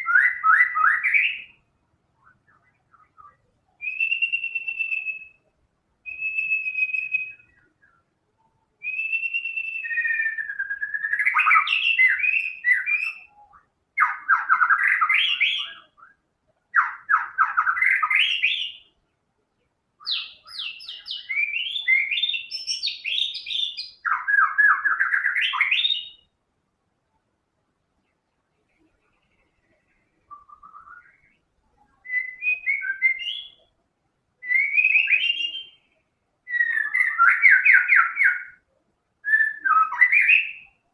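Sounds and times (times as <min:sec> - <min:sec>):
bird singing: 0:00.0 - 0:26.4, 0:28.0 - 0:33.8, 0:34.4 - 0:40.9.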